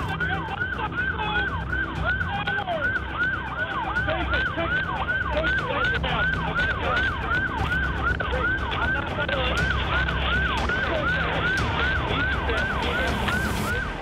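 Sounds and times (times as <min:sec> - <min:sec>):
police siren yelping: 0:00.0 - 0:14.0.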